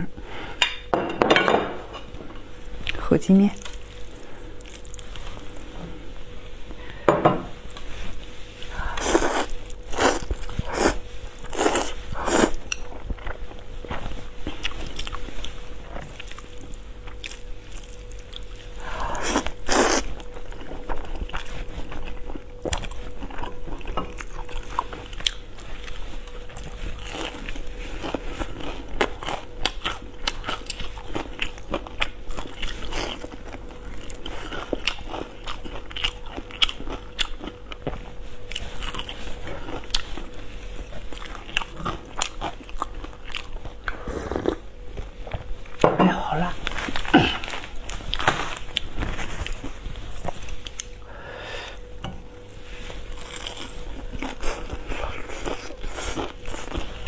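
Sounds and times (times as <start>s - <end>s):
faint steady hum: 0.0s - 57.0s
chewing with crunches: 8.6s - 45.8s, 46.6s - 51.0s, 52.3s - 57.0s.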